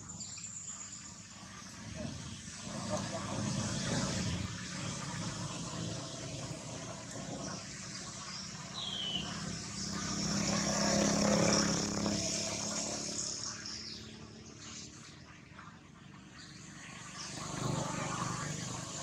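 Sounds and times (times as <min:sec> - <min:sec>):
motor vehicle passing: 0:01.5 - 0:19.0.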